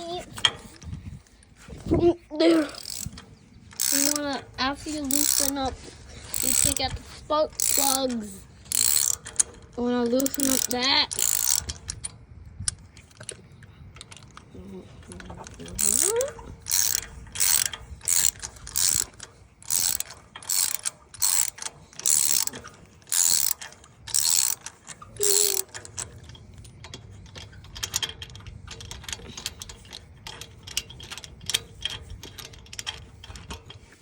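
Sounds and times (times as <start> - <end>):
socket ratchet clicking: 2.5 - 13.4, 15.5 - 33.9.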